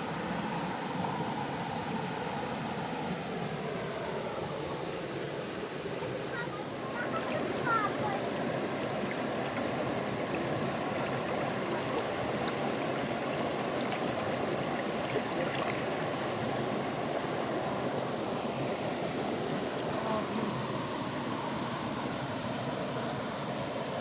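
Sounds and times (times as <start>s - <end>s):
fast-flowing stream rushing: 0.0s - 24.0s.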